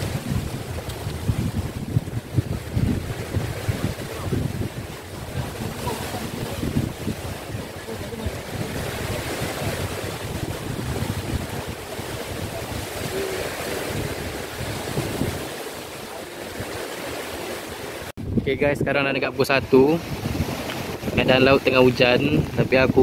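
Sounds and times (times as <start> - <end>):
sea surf: 0.0 - 23.0
wind buffeting the microphone: 0.0 - 23.0.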